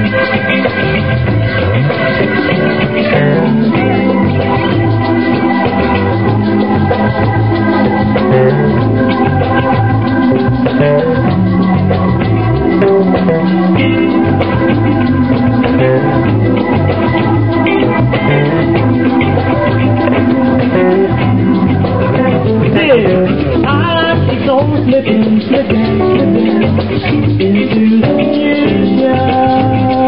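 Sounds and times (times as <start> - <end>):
congas: 0.0 - 30.0
drum kit: 0.0 - 30.0
electric guitar: 0.0 - 30.0
maracas: 0.0 - 30.0.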